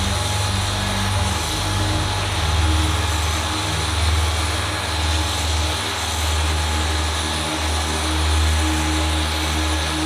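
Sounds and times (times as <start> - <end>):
aircraft engine drone: 0.0 - 10.0
faint steady whine: 0.0 - 10.0
rushing noise: 0.0 - 10.0.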